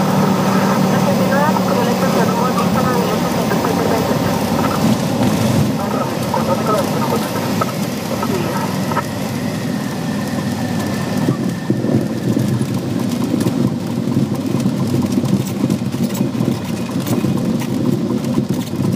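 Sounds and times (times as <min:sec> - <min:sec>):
aircraft engine idling: 0:00.0 - 0:18.9.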